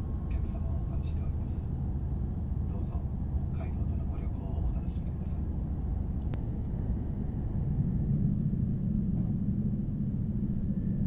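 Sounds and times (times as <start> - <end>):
train rumble inside passenger car: 0.0 - 11.0.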